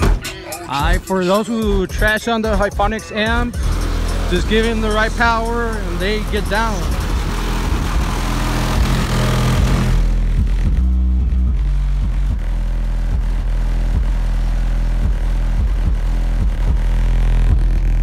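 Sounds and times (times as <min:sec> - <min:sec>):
bass-heavy music played loud: 0:00.0 - 0:18.0.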